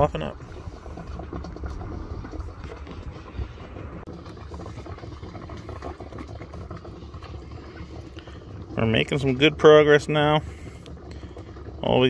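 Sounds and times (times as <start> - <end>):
gas burner rumbling: 0.0 - 12.0.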